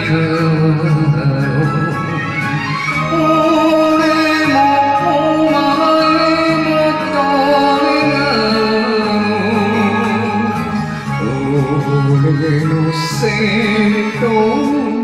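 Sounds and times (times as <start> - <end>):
karaoke backing track: 0.0 - 15.0
man singing into a microphone: 0.0 - 15.0.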